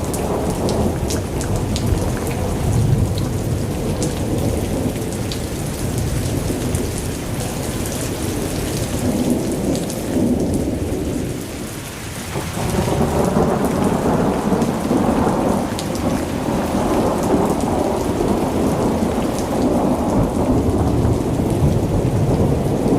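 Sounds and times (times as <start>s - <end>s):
thunder rumble: 0.0s - 11.7s, 12.3s - 22.9s
heavy rain on a car: 0.0s - 22.9s.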